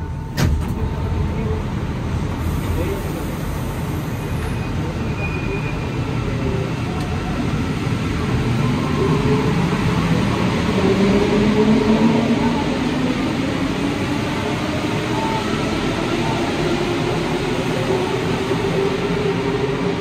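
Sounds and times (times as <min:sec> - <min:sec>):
metro train running: 0:00.0 - 0:20.0.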